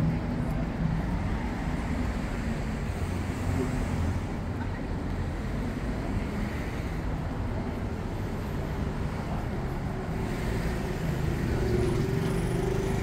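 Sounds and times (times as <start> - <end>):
street traffic noise: 0.0 - 13.0
vehicle engine hum: 0.0 - 13.0.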